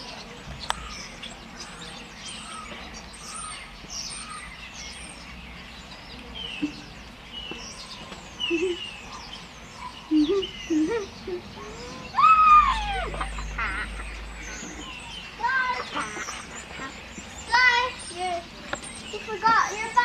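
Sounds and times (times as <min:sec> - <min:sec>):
birds chirping and twittering: 0:00.0 - 0:20.0
low wavering bird calls: 0:00.0 - 0:20.0.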